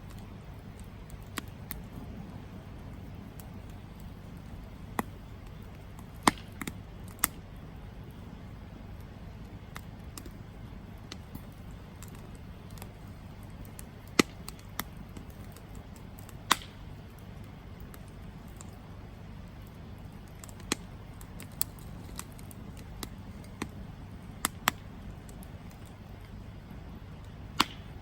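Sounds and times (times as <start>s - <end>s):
burning wood popping: 0.0s - 28.0s
campfire flames rumbling: 0.0s - 28.0s.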